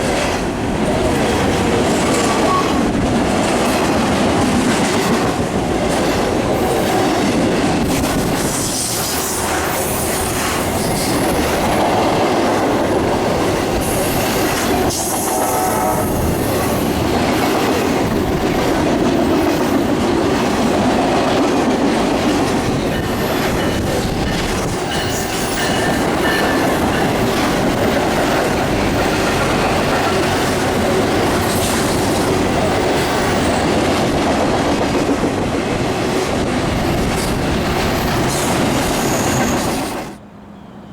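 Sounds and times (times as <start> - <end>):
train wheels rushing on rail: 0.0 - 40.9.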